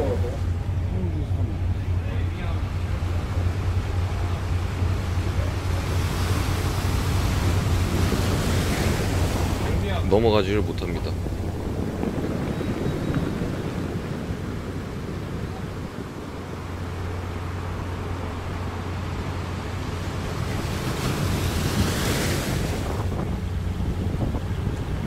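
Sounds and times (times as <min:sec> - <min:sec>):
boat engine droning: 0:00.0 - 0:25.0
water rushing: 0:00.0 - 0:25.0
wind on microphone: 0:03.1 - 0:25.0.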